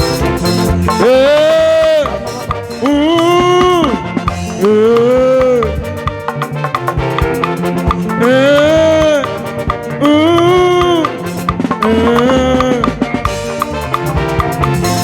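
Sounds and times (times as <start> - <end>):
bass and drum beat: 0.0 - 15.0
lead melody of held notes: 0.0 - 15.0.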